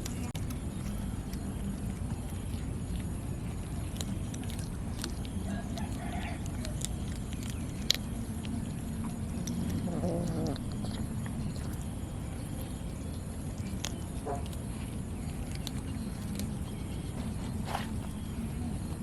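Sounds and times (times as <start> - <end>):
cats chewing raw fish: 0.0 - 19.0.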